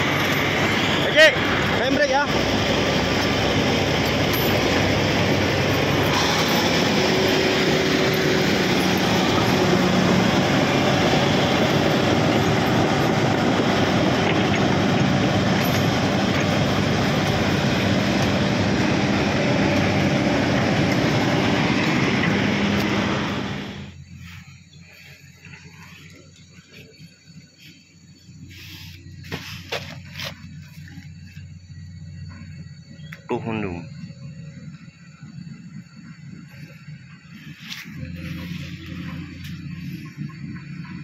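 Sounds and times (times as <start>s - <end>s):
steel tracks rattling: 0.0s - 24.0s, 28.3s - 41.0s
diesel engine running: 0.0s - 41.0s.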